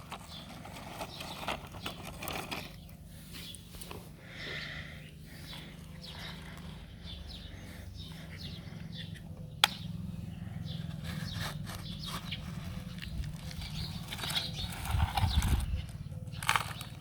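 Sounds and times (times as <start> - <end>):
birds chirping: 0.0 - 17.0
diesel engine running: 0.0 - 17.0.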